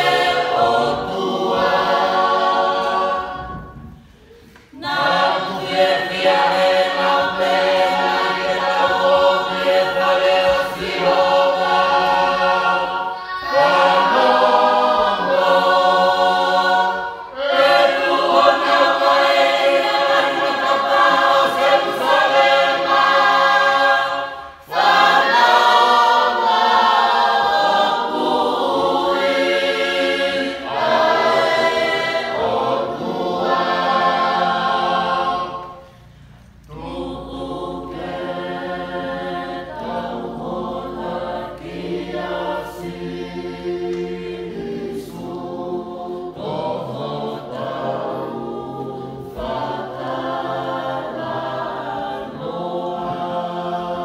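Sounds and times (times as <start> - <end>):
choir singing a hymn unaccompanied: 0.0 - 54.0.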